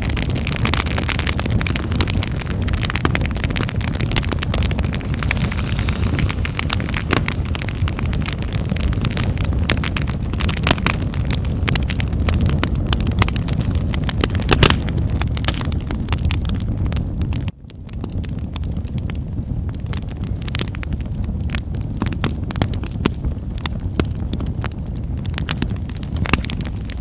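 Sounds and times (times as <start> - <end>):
low rumble of flames: 0.0 - 27.0
wood fire crackling: 0.0 - 27.0.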